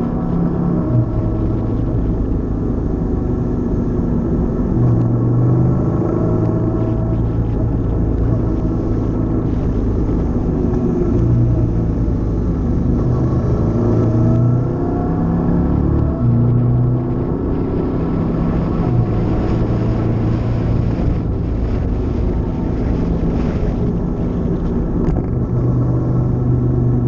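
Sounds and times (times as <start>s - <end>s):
wind and road rumble: 0.0s - 27.0s.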